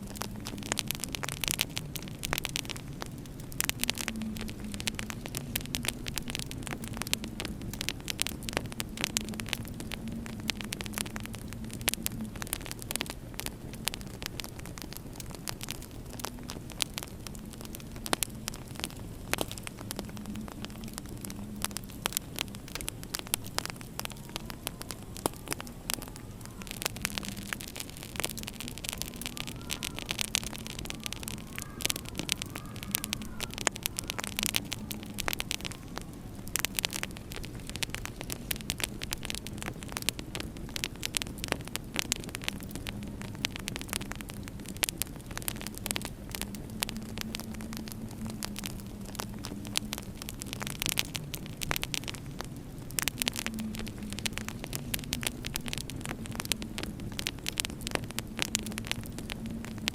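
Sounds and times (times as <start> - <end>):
low wind drone: 0.0 - 59.9
wood fire crackling and popping: 0.0 - 59.9.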